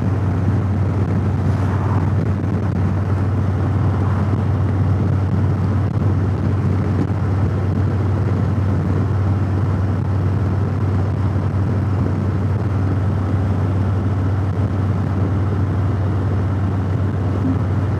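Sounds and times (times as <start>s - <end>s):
motorcycle engine drone: 0.0s - 17.9s
wind and road noise: 0.0s - 17.9s.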